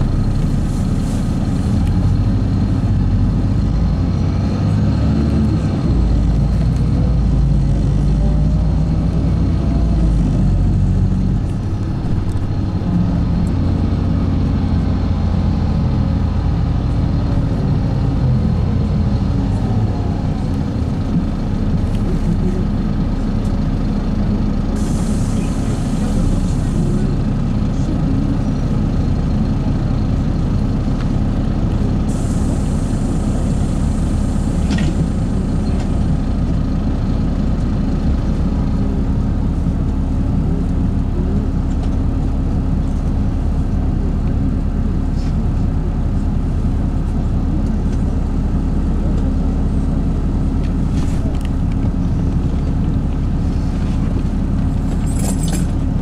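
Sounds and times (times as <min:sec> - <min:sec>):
bus engine hum: 0:00.0 - 0:56.0.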